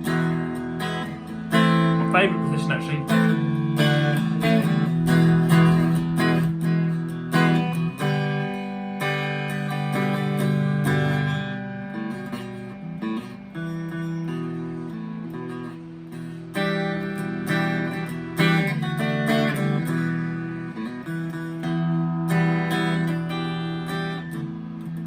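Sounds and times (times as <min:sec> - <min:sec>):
clean electric guitar strumming: 0:00.0 - 0:25.0
picked guitar notes: 0:00.0 - 0:25.0.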